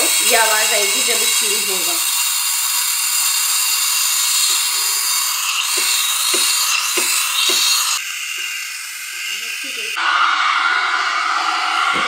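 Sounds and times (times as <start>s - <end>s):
steam wand hissing into milk: 0.0s - 12.0s.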